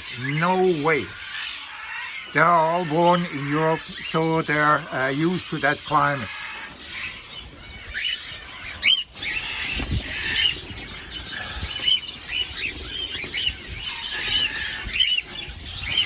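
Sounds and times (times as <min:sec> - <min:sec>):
cockatiels chirping: 0:00.0 - 0:16.0.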